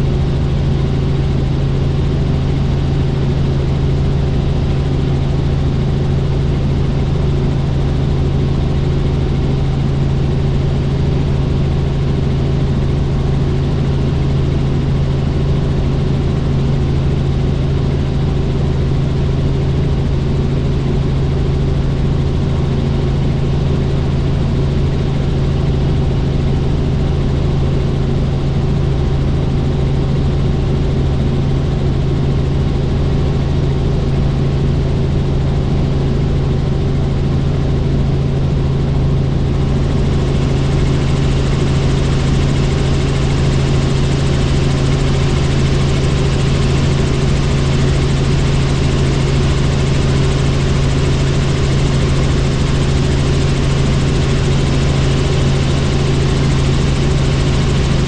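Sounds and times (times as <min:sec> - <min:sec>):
helicopter engine and rotor noise: 0:00.0 - 0:58.0.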